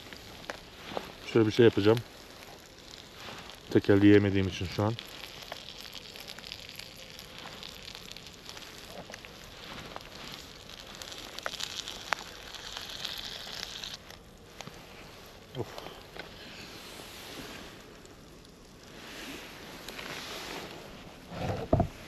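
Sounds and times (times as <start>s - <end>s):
eggs sizzling in butter: 0.0s - 22.0s.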